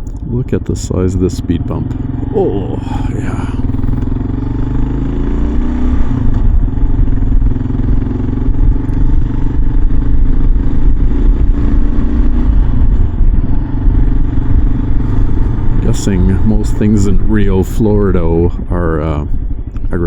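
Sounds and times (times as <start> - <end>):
low rumble: 0.0 - 20.0
motorcycle engine running: 0.0 - 20.0.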